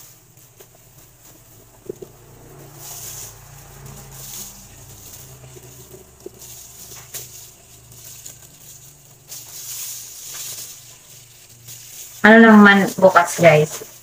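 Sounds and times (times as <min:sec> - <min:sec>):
plastic gloves crinkling: 0:00.0 - 0:14.0.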